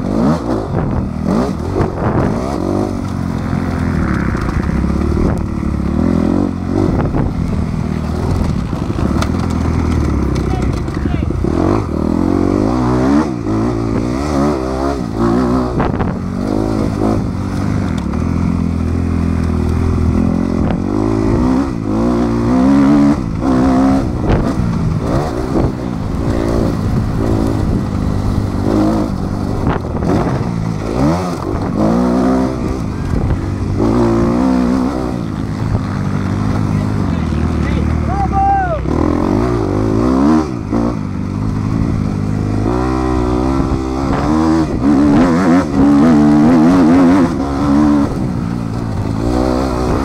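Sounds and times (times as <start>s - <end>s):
motocross bike engine revving: 0.0s - 50.0s.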